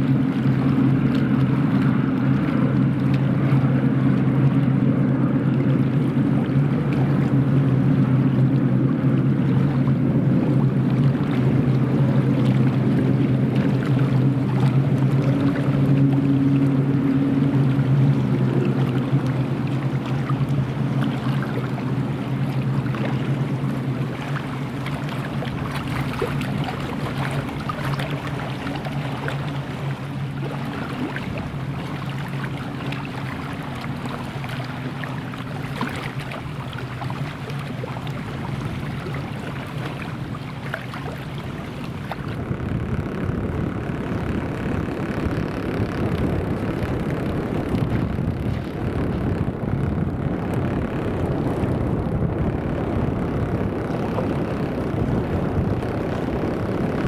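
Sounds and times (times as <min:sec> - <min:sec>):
turboprop engines droning: 0:00.0 - 0:57.0.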